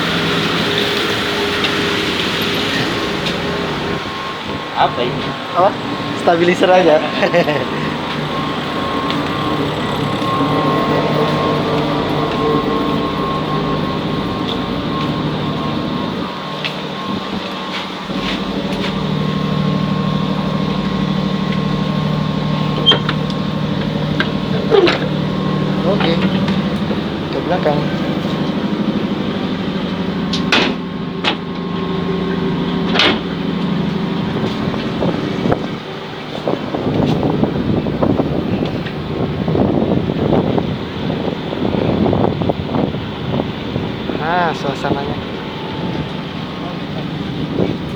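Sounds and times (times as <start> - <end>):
ferry engines droning: 0.0 - 47.9.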